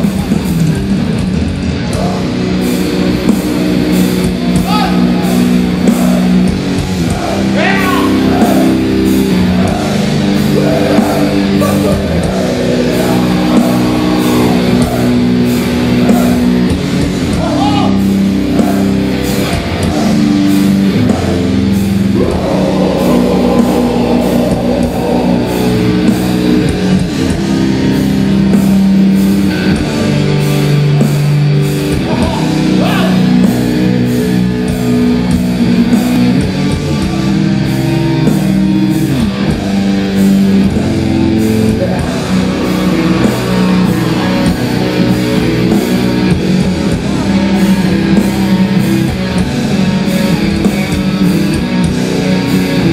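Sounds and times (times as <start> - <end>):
bass guitar: 0.0 - 52.9
distorted electric guitars: 0.0 - 52.9
drums: 0.0 - 52.9.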